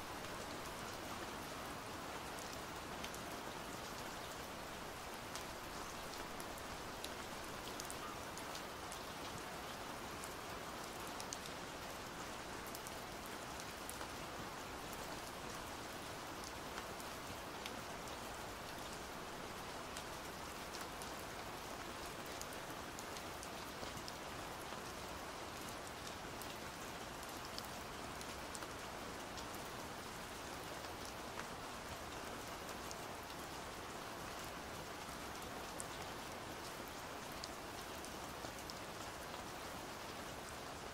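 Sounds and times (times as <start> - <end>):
pouring rain: 0.0 - 40.9.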